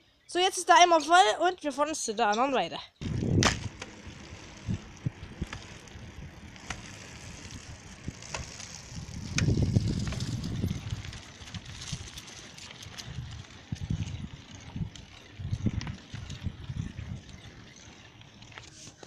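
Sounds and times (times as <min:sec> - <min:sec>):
bike rattles and clicks: 0:02.4 - 0:19.0
bicycle tyres rumbling on paving: 0:03.0 - 0:19.0.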